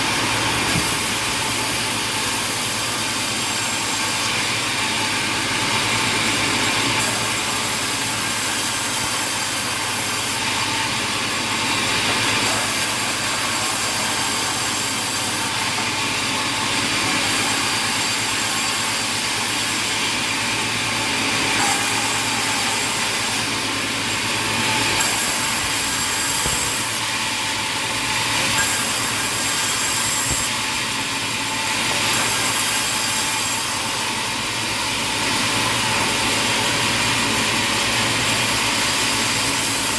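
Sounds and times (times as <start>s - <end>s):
saw cutting wood: 0.0s - 39.9s
sawmill machinery running: 0.0s - 39.9s.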